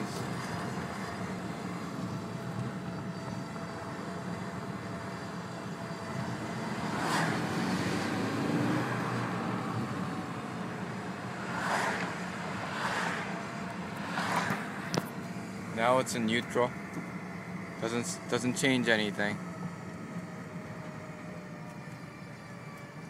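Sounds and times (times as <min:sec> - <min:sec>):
road noise: 0:00.0 - 0:23.0
thin whine: 0:00.0 - 0:23.0.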